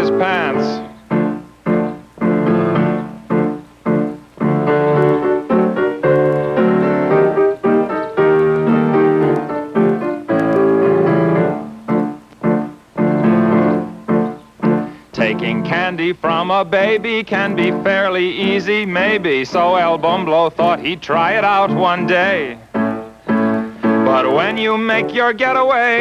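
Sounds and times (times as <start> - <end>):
piano playing bouncy chords: 0.0 - 26.0.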